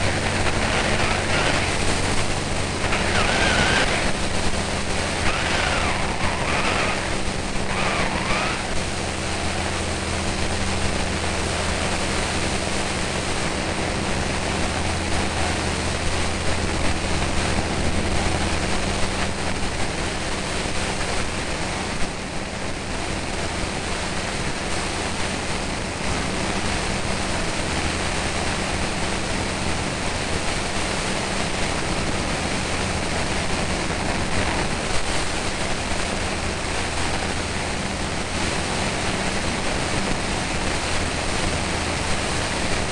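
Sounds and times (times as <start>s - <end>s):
light aircraft engine and propeller: 0.0s - 42.9s
wind rushing on microphone: 0.0s - 42.9s.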